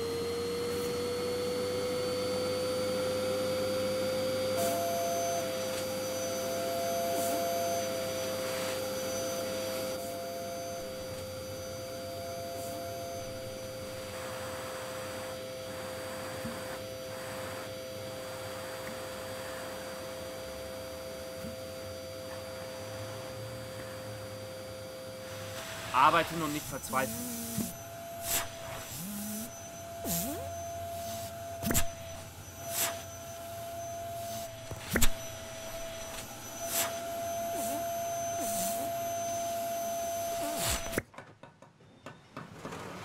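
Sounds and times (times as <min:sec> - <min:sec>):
vacuum cleaner whining: 0:00.0 - 0:41.0, 0:42.4 - 0:43.0.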